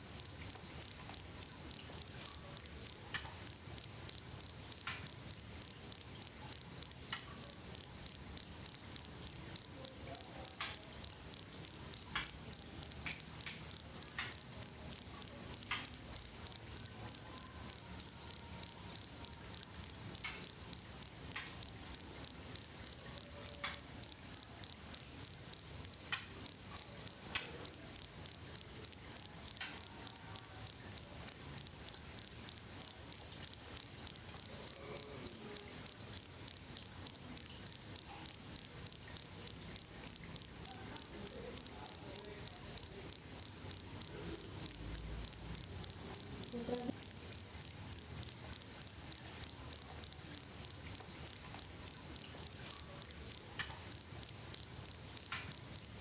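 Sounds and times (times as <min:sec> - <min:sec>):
cricket chirping: 0:00.0 - 0:56.0.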